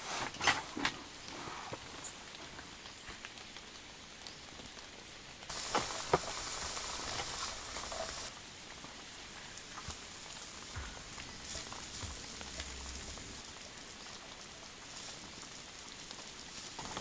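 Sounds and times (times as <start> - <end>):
faint steady hiss: 0.0 - 17.0
food sizzling on a griddle: 2.9 - 17.0.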